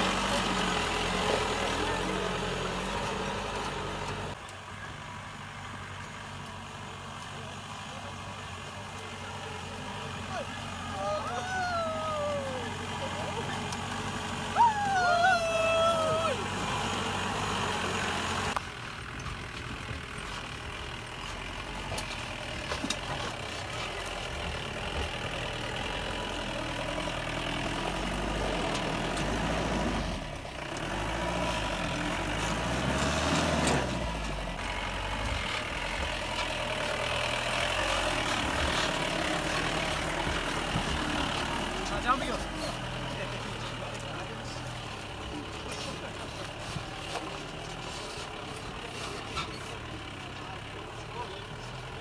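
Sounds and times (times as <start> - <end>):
off-road vehicle engine straining: 0.0 - 52.0.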